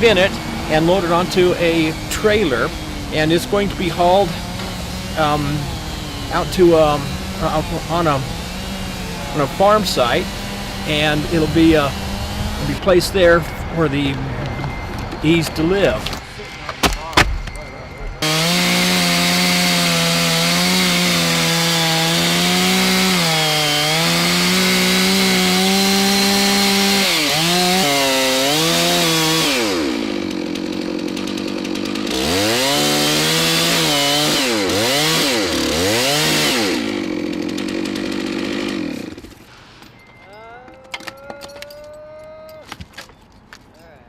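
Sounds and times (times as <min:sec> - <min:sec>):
chainsaw cutting wood: 0:00.0 - 0:17.5, 0:18.2 - 0:39.5.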